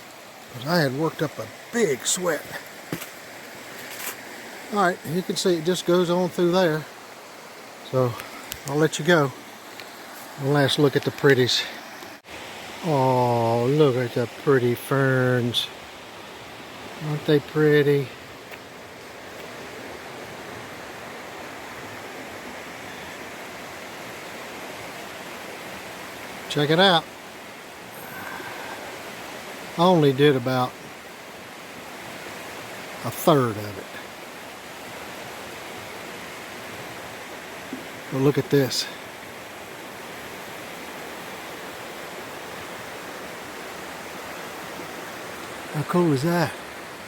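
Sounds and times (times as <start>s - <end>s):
flowing water rushing: 0.0s - 47.0s.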